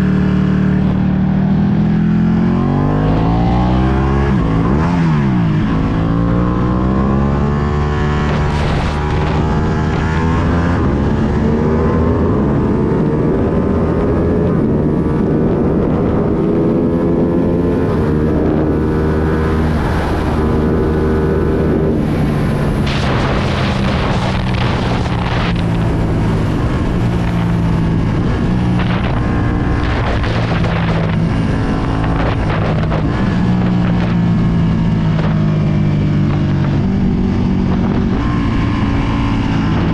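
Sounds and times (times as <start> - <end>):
motorcycle engine revving: 0.0 - 39.9
wind gusts on microphone: 0.0 - 39.9.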